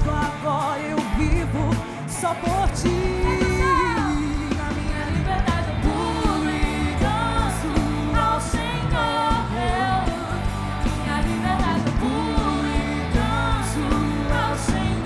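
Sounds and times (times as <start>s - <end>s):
band playing gospel song: 0.0s - 15.0s
person singing: 0.0s - 15.0s.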